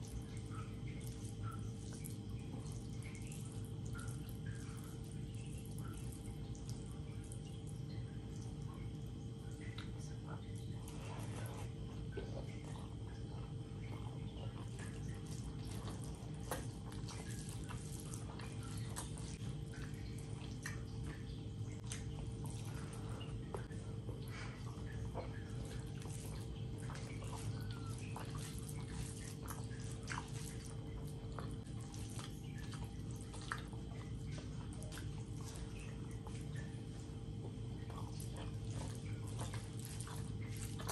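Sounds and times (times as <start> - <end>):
fingers squelching rice: 0.0 - 7.7, 9.5 - 40.9
steady low hum: 0.0 - 40.9
wet chewing and lip-smacking: 0.0 - 40.9.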